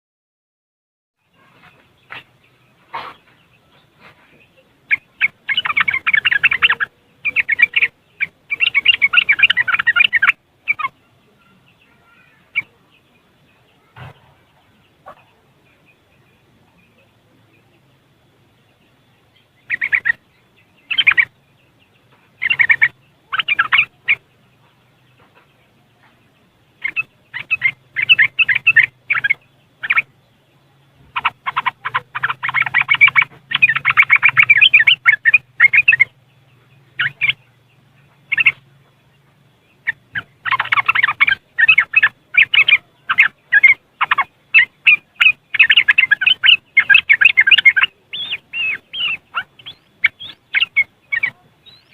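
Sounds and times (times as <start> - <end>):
bulbul chattering twitter: 1.2 - 51.9.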